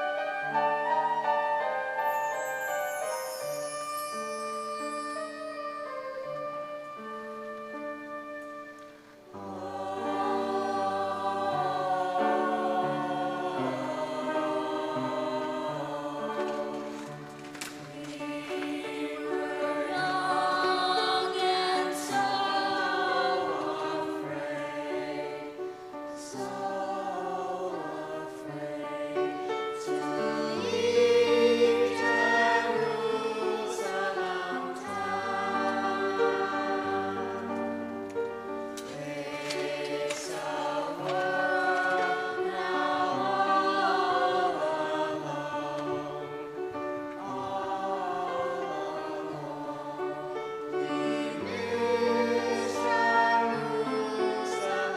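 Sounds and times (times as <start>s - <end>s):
choir singing held notes: 0.0s - 54.9s
musical accompaniment: 0.0s - 54.9s.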